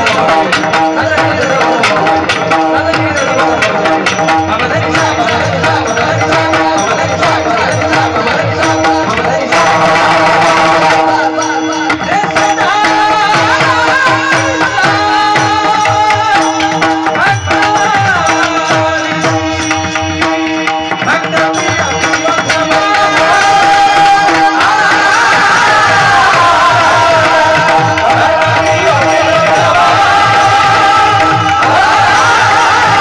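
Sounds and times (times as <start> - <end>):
person singing: 0.0 - 33.0
tabla strokes: 0.0 - 33.0.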